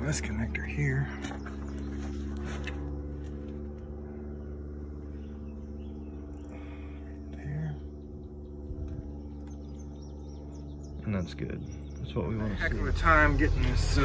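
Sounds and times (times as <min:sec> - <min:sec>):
low machine hum with tones: 0:00.0 - 0:14.0.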